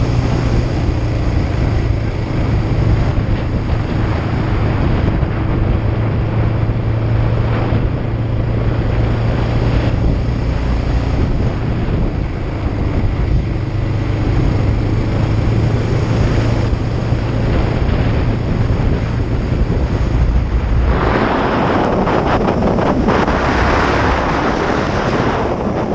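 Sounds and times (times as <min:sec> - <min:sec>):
motorcycle engine running: 0:00.0 - 0:25.9
wind noise on microphone: 0:00.0 - 0:25.9.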